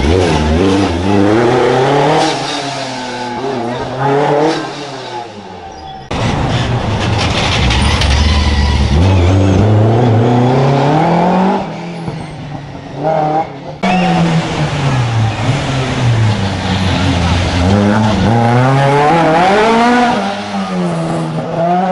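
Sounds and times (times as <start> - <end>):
rally car engines revving: 0.0 - 21.9.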